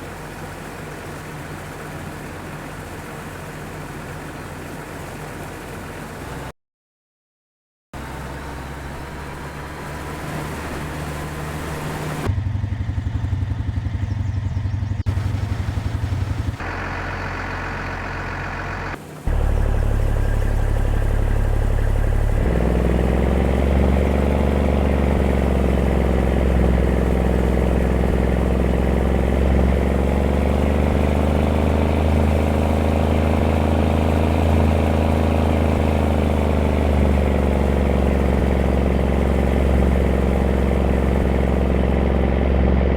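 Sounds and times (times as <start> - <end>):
engine running: 0.0 - 6.5, 8.0 - 42.9.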